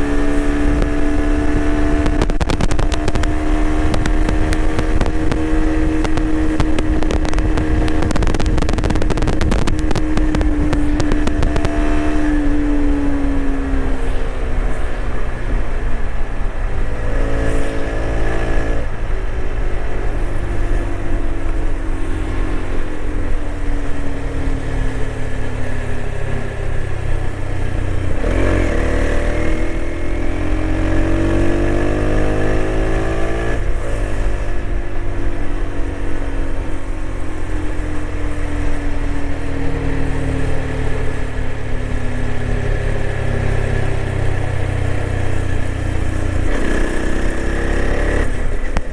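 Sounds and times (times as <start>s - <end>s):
motorcycle engine under way: 0.0s - 48.9s.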